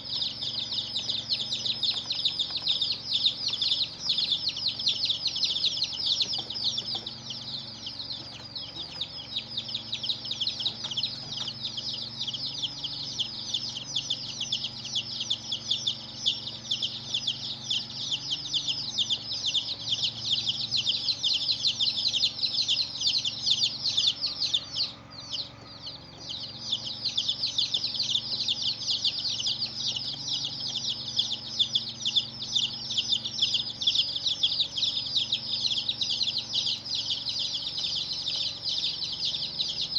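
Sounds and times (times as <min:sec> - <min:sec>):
baby chicks chirping: 0:00.0 - 0:39.9.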